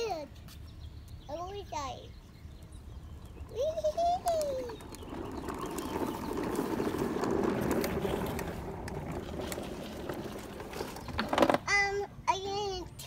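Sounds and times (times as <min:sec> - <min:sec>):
plastic wheels rolling on asphalt: 0:00.0 - 0:13.0.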